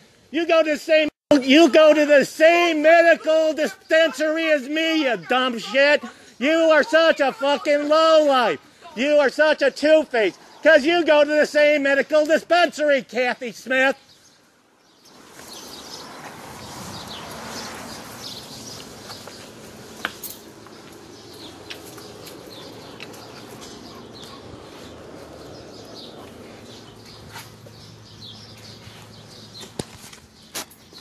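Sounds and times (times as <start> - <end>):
birds chirping: 0.0 - 31.0
outdoor background noise: 0.0 - 31.0.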